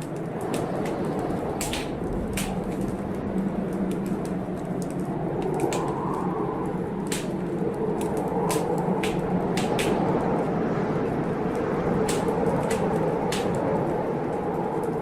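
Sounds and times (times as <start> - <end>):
heavy blizzard wind: 0.0 - 15.0
wood fire crackling and popping: 0.0 - 15.0.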